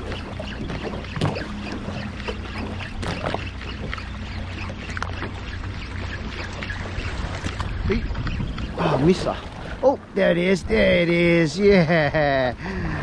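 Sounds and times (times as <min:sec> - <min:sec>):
water splashing against hull: 0:00.0 - 0:11.9
boat motor humming: 0:00.0 - 0:13.0.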